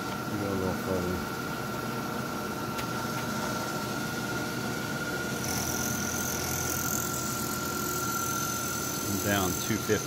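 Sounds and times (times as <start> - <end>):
milling machine whining: 0.0 - 10.0.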